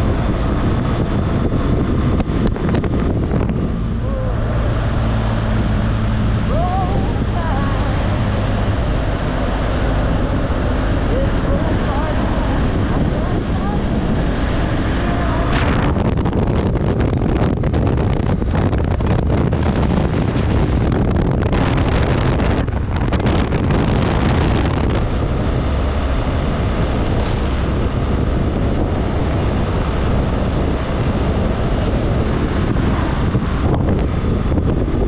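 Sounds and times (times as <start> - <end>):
motorcycle engine: 0.0 - 35.0
wind rushing over microphone: 0.0 - 35.0.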